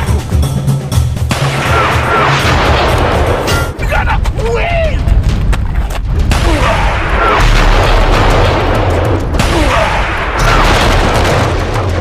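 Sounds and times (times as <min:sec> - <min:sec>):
explosions and blasts: 0:01.3 - 0:12.0.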